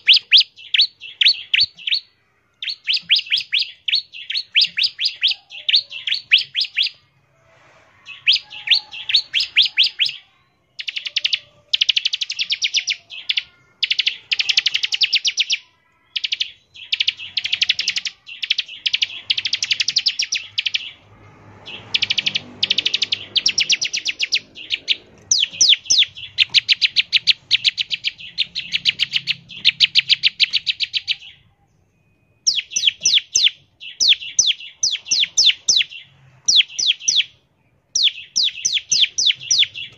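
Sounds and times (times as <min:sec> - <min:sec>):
bird trilling song: 0:00.0 - 0:07.1, 0:08.0 - 0:39.9.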